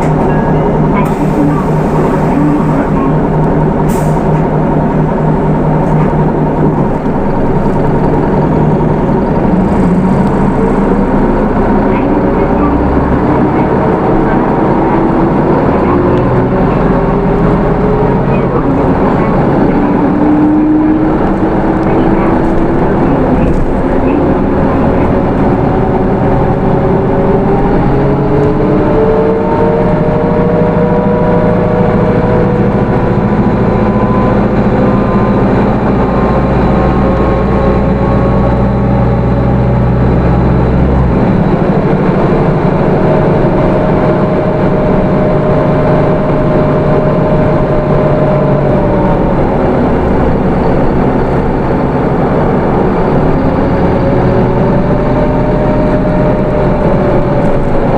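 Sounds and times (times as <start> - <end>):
diesel bus engine: 0.0 - 57.9
transmission whine: 0.0 - 57.9.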